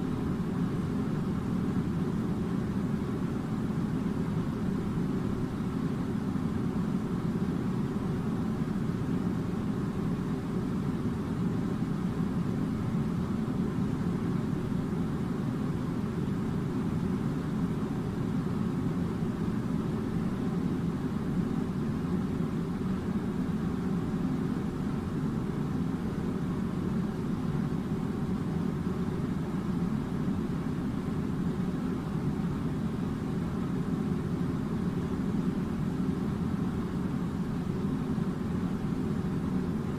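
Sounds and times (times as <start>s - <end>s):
low rumble of machinery: 0.0s - 39.9s.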